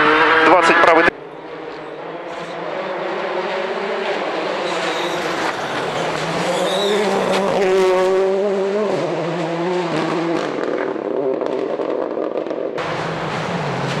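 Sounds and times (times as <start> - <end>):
rally car engine revving: 0.0 - 14.0
tyre and road noise: 0.0 - 14.0.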